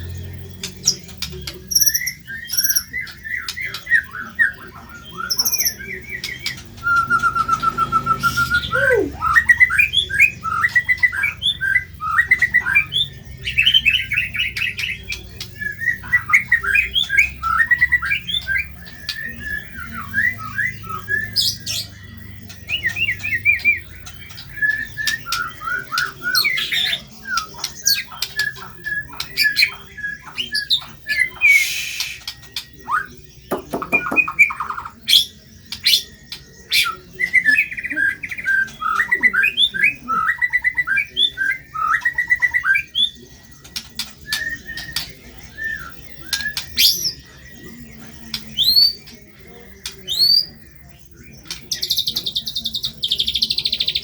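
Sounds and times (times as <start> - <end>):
harsh bird squawk and rattle: 0.0 - 47.4, 48.3 - 49.1
bird singing trills and whistles: 0.0 - 54.0.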